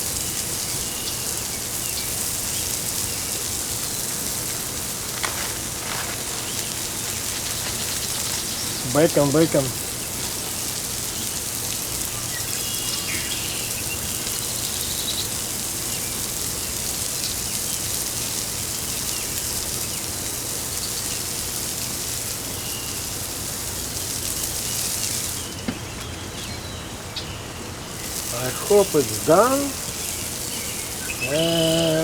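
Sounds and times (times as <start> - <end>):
bacon sizzling on grill: 0.0 - 32.0.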